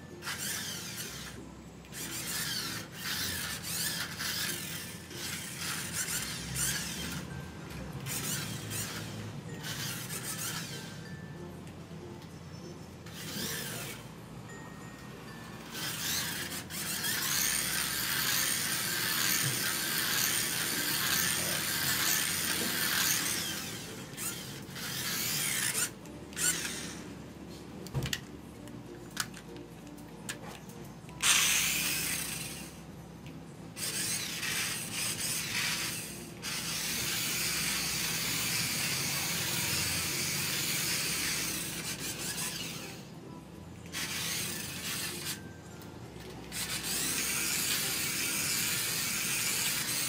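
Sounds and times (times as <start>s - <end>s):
toy car motor whirring: 0.0s - 11.3s, 12.6s - 27.2s, 29.0s - 29.6s, 31.1s - 33.0s, 33.7s - 43.1s, 43.8s - 50.0s.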